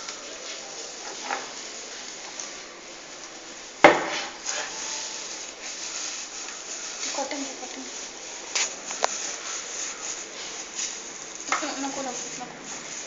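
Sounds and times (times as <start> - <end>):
dry straw rustling: 0.0 - 13.0.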